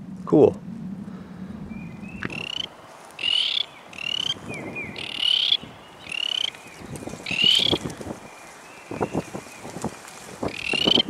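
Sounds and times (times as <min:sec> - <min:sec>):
rustling in dry grass: 0:00.9 - 0:11.0
frogs peeping: 0:01.6 - 0:11.0.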